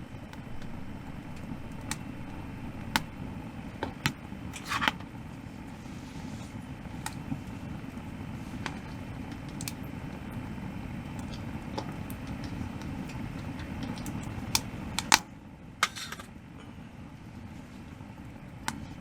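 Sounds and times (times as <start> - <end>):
steady low rumble: 0.0 - 15.7.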